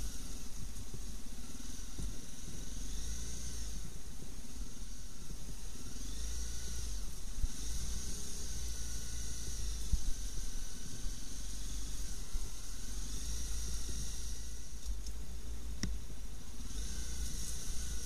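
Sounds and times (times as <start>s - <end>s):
motorcycle engine drone: 0.0s - 18.0s
steady hiss: 0.0s - 18.0s
wind rumble on microphone: 0.0s - 18.0s.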